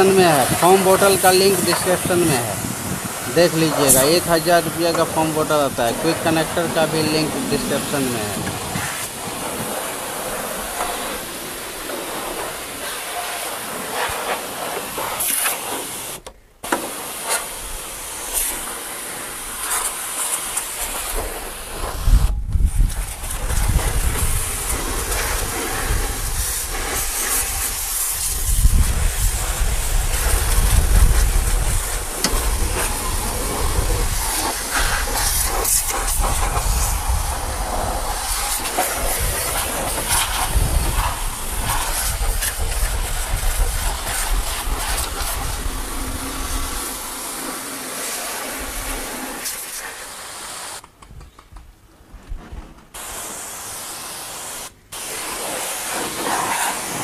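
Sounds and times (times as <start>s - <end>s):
pressure washer jet hissing: 0.0s - 50.8s, 53.0s - 57.0s.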